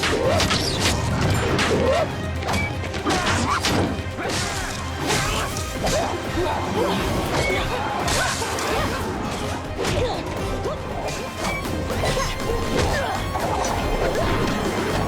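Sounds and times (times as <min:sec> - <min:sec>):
dramatic film score: 0:00.0 - 0:15.0.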